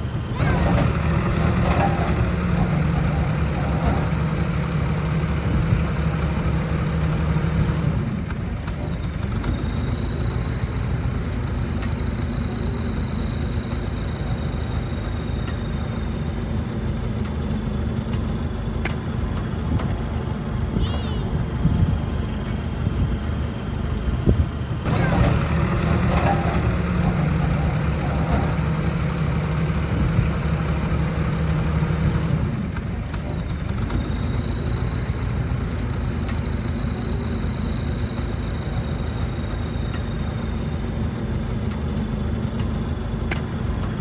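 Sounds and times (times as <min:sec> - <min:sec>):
heavy diesel machinery under load: 0:00.0 - 0:44.0.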